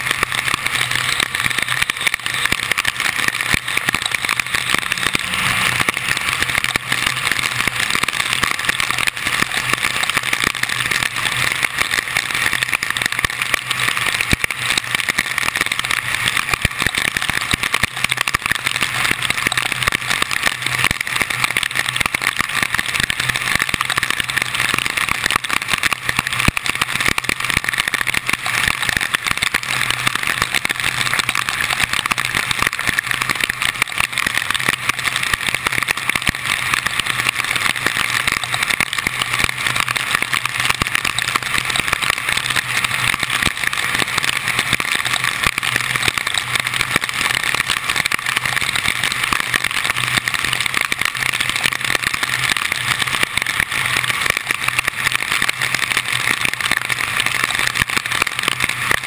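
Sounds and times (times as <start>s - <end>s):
low steady hum: 0.0s - 59.0s
patter of raindrops: 0.0s - 59.0s.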